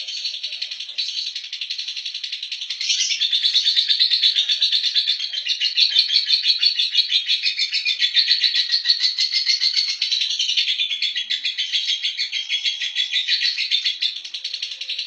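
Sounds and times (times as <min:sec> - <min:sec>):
lovebird shrill chattering song: 0:00.0 - 0:15.0.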